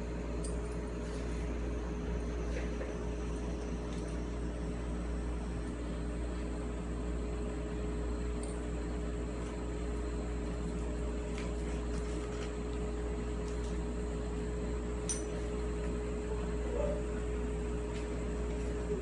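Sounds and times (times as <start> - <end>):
mechanical hum of appliance: 0.0 - 19.0.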